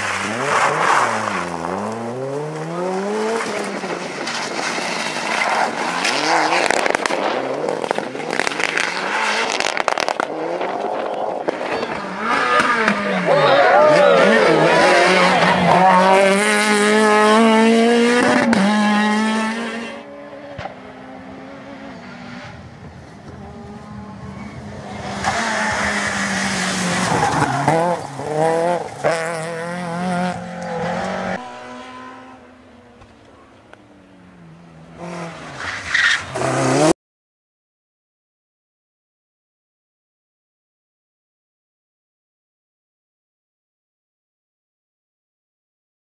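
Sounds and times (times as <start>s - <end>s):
rally car engines revving: 0.0s - 36.9s.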